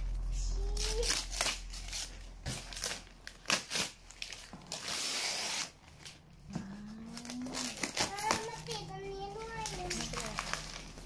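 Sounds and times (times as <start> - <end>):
wrapping paper tearing and crinkling: 0.0 - 11.0.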